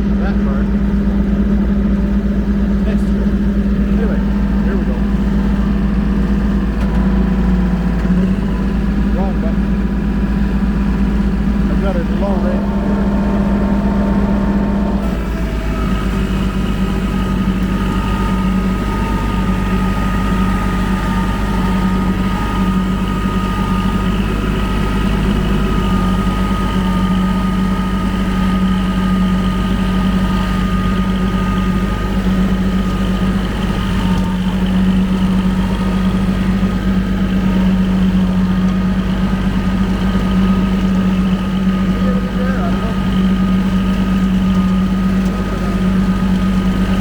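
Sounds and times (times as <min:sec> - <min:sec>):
rotary mower: 0:00.0 - 0:47.0
tractor diesel engine running: 0:00.0 - 0:47.0.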